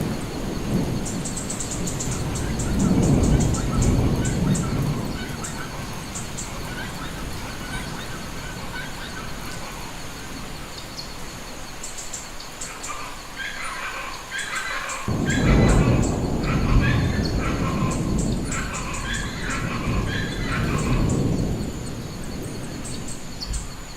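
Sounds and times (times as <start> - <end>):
low thunder rumble: 0.0 - 11.0, 14.2 - 23.9
steady rain: 0.0 - 23.9.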